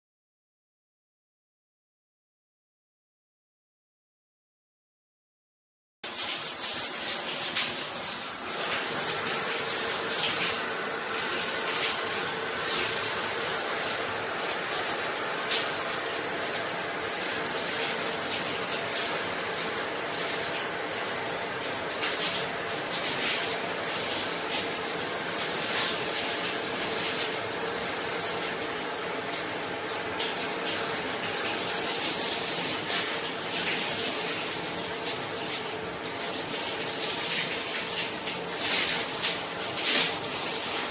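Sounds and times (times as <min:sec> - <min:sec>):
shower water spraying: 0:06.0 - 0:40.9.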